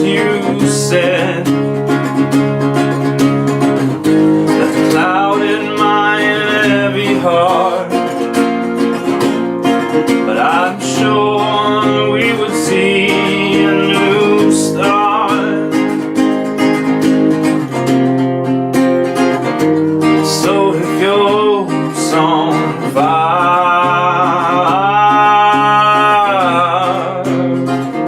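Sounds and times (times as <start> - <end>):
strummed acoustic guitar chords: 0.0 - 28.0.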